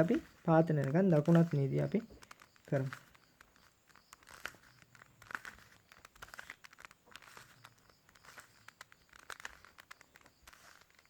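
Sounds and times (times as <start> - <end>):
plastic puzzle cube clicking: 0.0 - 11.0.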